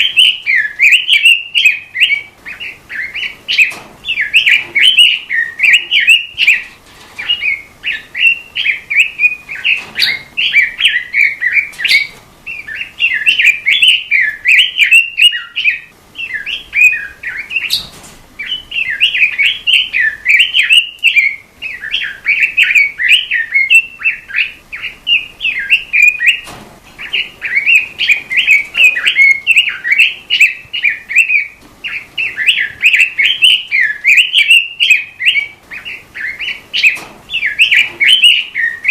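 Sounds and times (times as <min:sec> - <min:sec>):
songbird warbling: 0:00.0 - 0:38.9.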